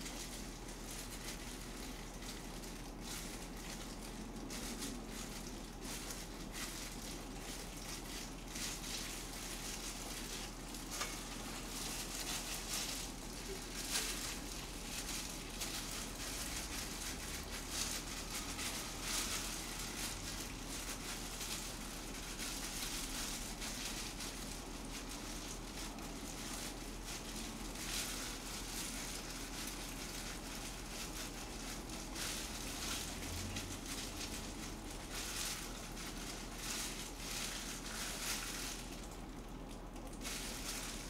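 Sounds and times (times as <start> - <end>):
faint hiss and low hum: 0.0 - 41.0
hands rustling and crackling food: 0.0 - 41.0.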